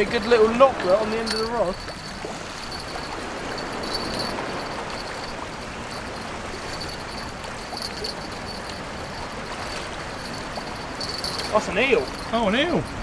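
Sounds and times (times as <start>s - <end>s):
sea water rushing along a wall: 0.0s - 13.0s.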